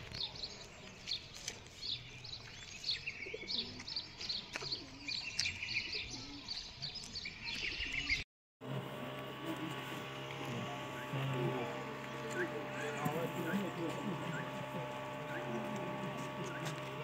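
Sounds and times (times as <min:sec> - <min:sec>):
birds chirping: 0:00.0 - 0:08.2, 0:09.1 - 0:17.0.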